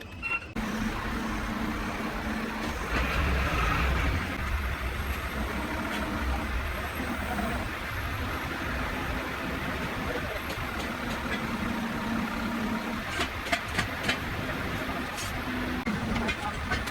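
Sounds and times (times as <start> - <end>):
truck engine running: 0.5 - 16.9.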